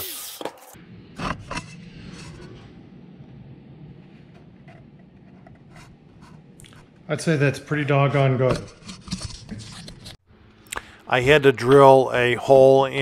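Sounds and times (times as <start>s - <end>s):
low steady hum: 0.8s - 13.0s.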